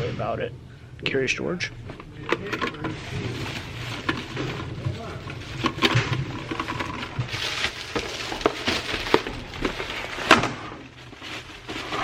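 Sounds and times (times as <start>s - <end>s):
rustling of objects: 1.6s - 12.0s
objects knocking and clattering: 1.8s - 12.0s.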